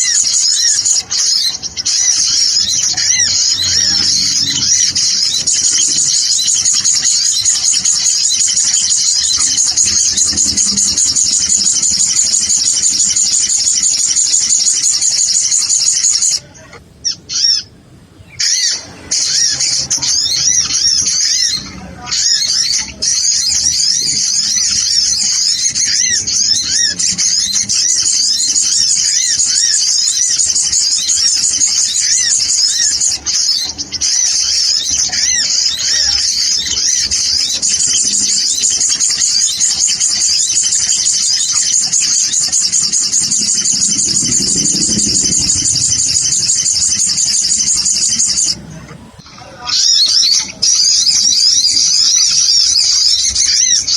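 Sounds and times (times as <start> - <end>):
birds twittering: 0.0 - 53.9.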